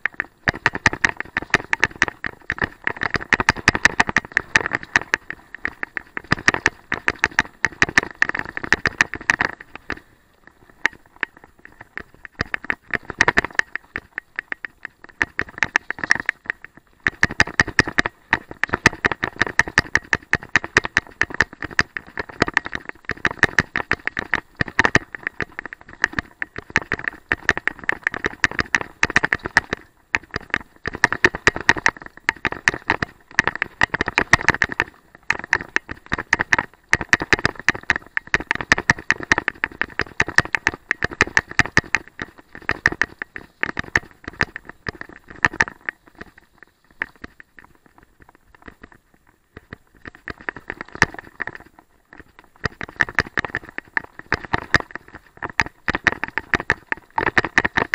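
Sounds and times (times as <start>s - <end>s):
bike rattling over rough trail: 0.0s - 57.9s.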